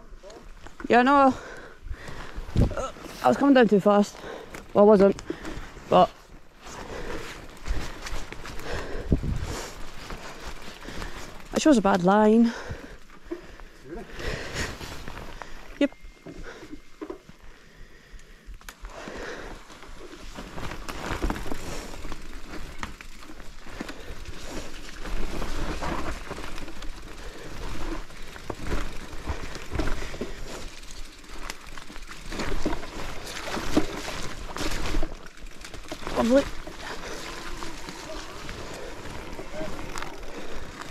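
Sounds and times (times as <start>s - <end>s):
bike tyres on rocky trail: 0.0s - 40.9s.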